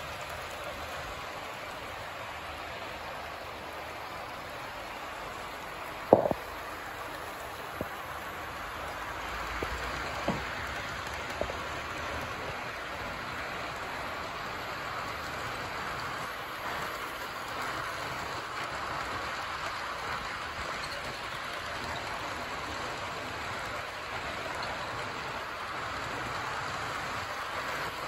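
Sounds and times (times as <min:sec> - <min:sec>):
model train rolling on track: 0:00.0 - 0:28.0.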